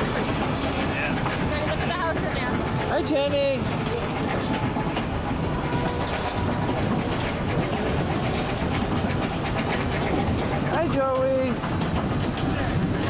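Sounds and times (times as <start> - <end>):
train wheels rattling on rails: 0.0 - 13.0.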